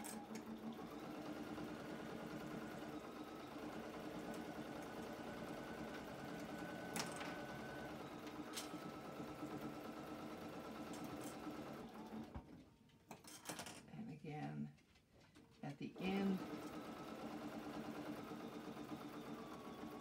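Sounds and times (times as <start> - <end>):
sewing machine stitching: 0.0 - 12.6, 16.0 - 20.0.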